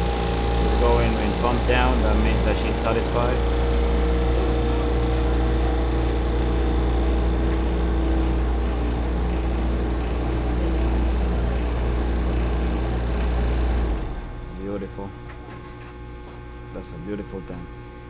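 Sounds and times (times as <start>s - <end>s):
freezer condensing unit humming: 0.0s - 18.0s.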